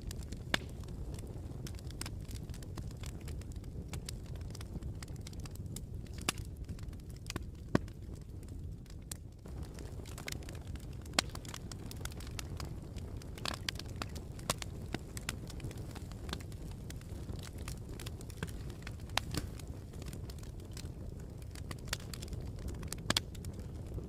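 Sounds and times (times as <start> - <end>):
campfire wood crackling and popping: 0.0 - 24.0
low fire rumble: 0.0 - 24.0.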